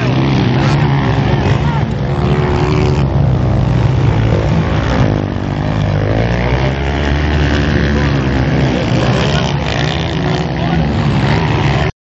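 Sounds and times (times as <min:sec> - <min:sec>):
dirt bike engines revving: 0:00.0 - 0:11.9.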